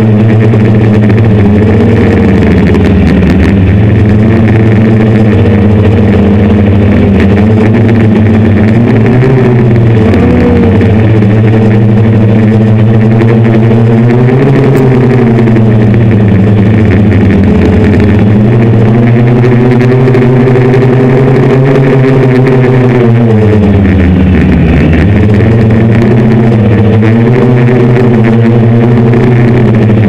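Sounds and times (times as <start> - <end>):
drone motors and propellers: 0.0 - 30.0.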